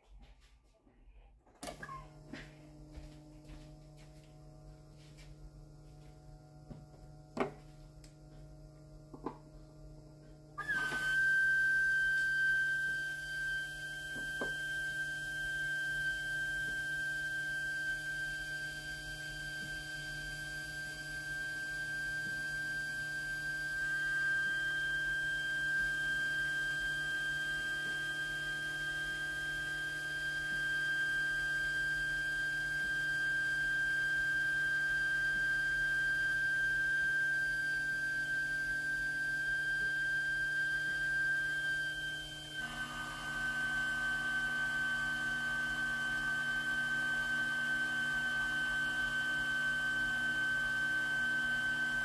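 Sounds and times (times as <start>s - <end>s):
high-pitched whine: 9.1s - 52.0s.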